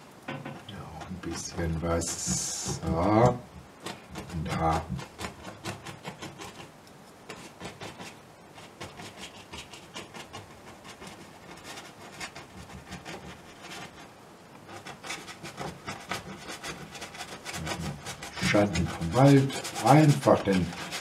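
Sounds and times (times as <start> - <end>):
paintbrush scratching on canvas: 0.4 - 6.7, 7.3 - 21.0.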